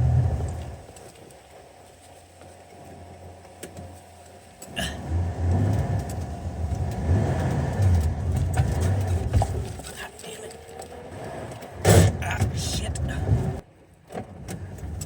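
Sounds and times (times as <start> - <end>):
car engine idling: 0.0 - 13.7.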